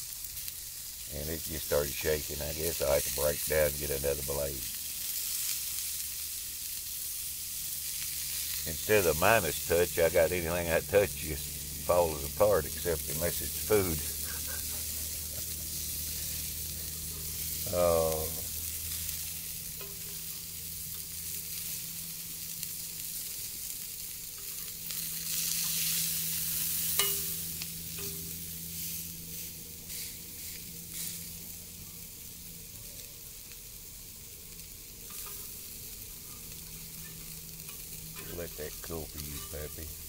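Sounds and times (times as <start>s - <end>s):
burger patties sizzling on grill: 0.0s - 40.0s.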